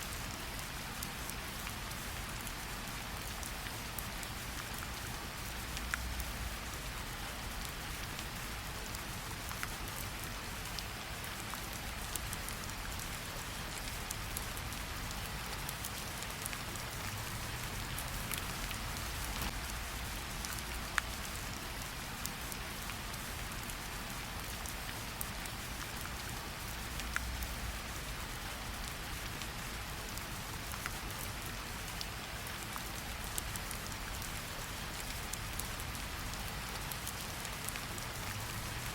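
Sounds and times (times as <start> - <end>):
steady rain falling: 0.0 - 38.9
raindrops ticking on hard surface: 0.2 - 38.9.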